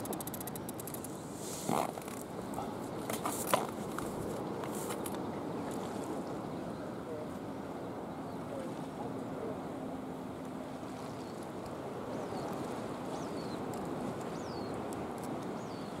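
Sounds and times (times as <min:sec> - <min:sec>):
sea waves: 0:00.0 - 0:16.0
wind: 0:00.0 - 0:16.0.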